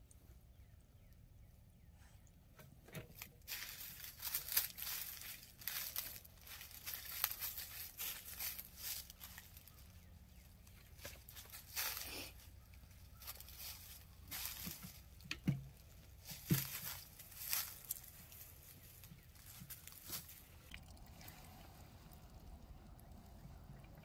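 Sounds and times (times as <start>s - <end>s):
dry leaves crackling: 3.2s - 23.5s.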